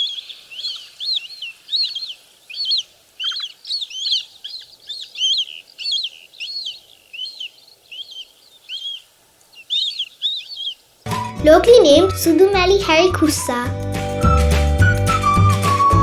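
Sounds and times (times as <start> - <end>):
bird calling high arched notes: 0.0 - 15.3.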